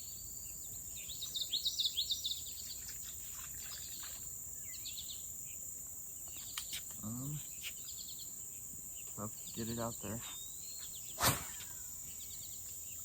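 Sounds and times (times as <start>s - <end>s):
insects droning: 0.0s - 13.0s
songbird chirping: 0.0s - 13.0s.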